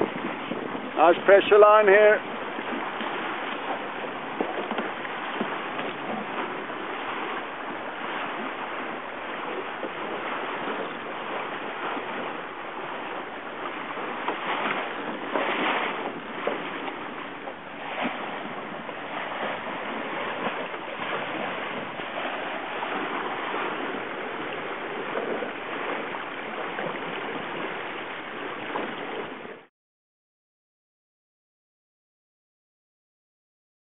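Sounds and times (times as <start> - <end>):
wind noise: 0.0 - 29.6
water rushing past hull: 0.0 - 29.7.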